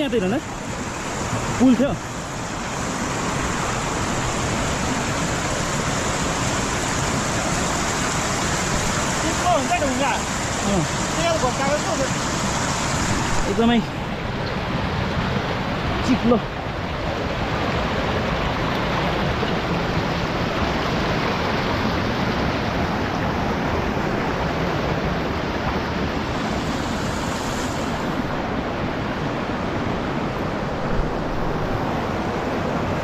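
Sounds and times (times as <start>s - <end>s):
stream water rushing over rocks: 0.0s - 33.0s.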